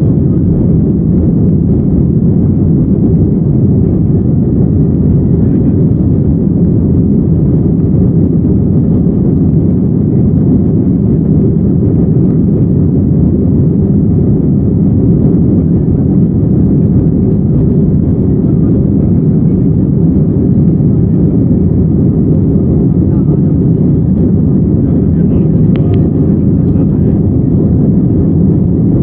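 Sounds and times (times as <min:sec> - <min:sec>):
jet engine and airflow rush: 0:00.0 - 0:29.0.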